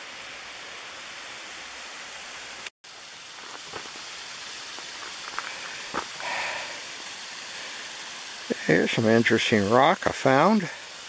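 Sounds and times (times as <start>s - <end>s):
water rushing over rocks: 1.6s - 11.0s.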